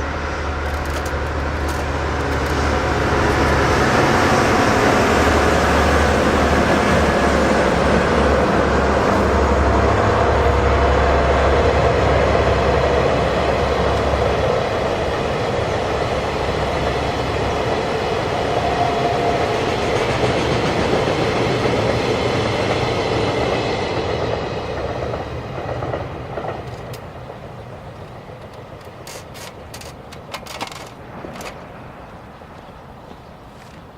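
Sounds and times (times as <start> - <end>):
train wheels on rails: 0.0 - 33.9.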